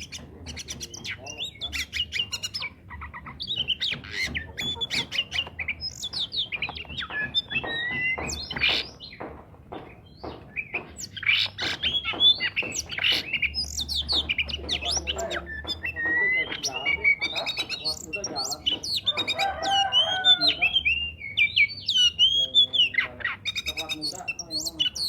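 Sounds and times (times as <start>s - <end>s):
bird singing whistles and trills: 0.0s - 9.2s, 9.9s - 25.0s.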